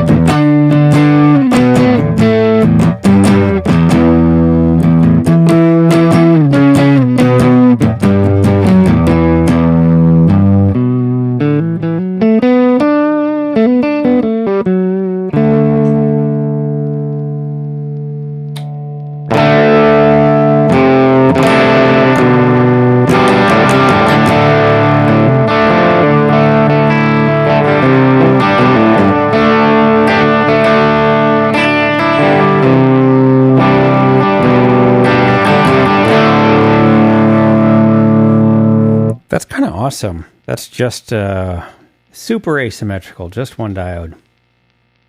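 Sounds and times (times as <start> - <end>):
overdriven electric guitar chords: 0.0 - 39.3.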